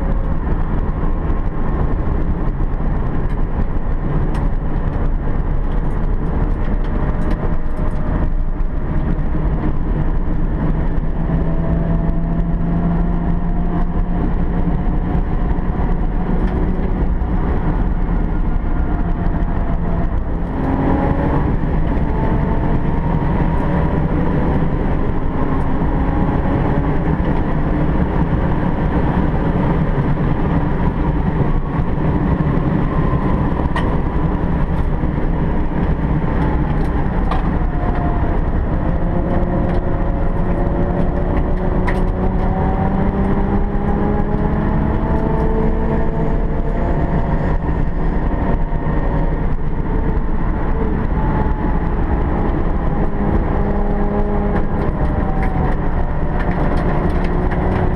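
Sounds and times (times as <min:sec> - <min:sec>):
car engine revving in cabin: 0:00.0 - 0:57.9
road and wind noise: 0:00.0 - 0:57.9.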